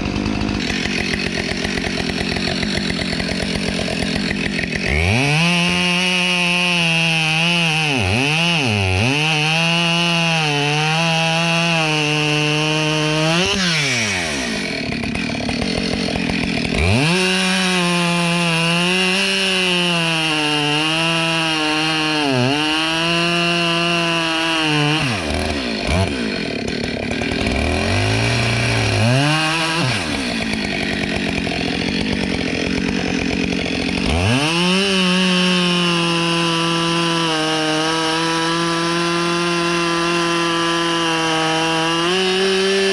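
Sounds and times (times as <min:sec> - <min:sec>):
chainsaw cutting logs: 0:00.0 - 0:42.9.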